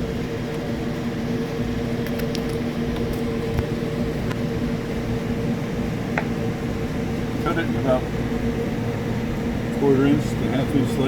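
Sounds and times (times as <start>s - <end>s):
fan hum with low drone: 0.0s - 11.0s.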